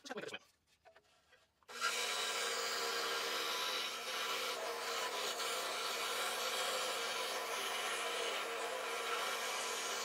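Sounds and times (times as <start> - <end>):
scroll saw cutting wood: 1.7 - 10.0.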